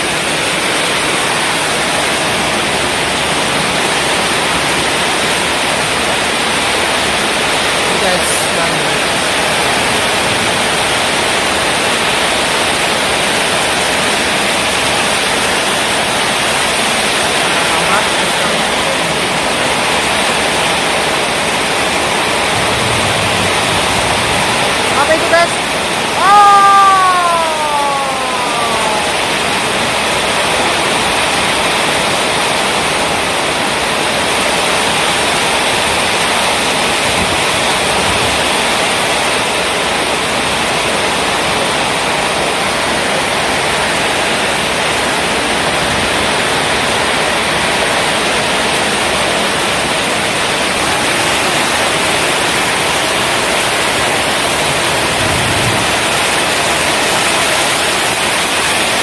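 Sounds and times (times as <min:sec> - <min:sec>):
heavy rain on metal roofs: 0:00.0 - 0:59.0.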